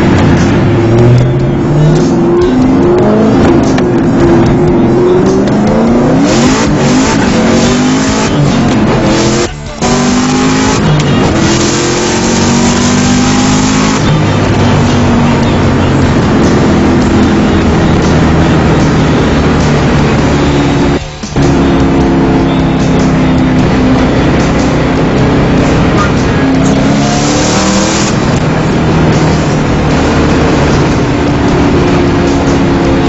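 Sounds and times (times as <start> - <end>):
turbocharged car engine accelerating: 0.0 - 33.0.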